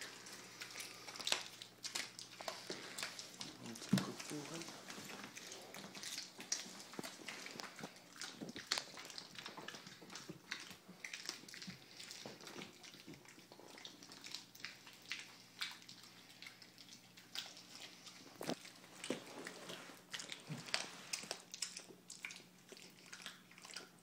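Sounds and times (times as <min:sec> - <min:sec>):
dog chewing bone: 0:00.0 - 0:24.0.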